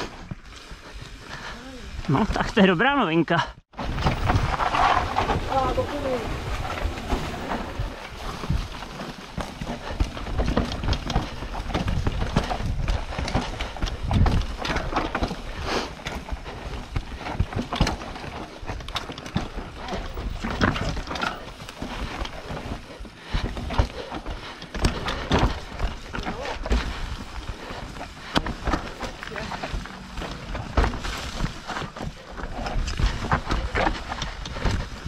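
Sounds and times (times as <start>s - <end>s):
bike clattering over stones: 3.8s - 35.0s.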